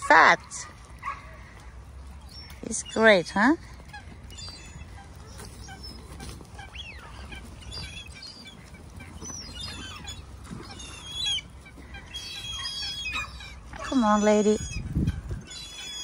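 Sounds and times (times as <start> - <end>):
bird calls and chirps: 1.2 - 16.0.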